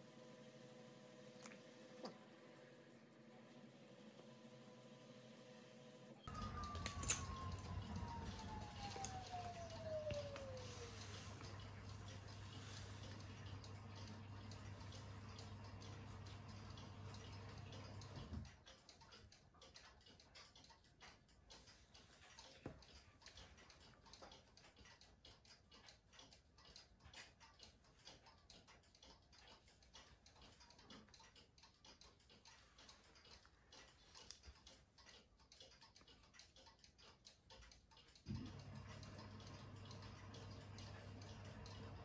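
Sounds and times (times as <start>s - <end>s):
faint small clicks: 6.2s - 41.9s.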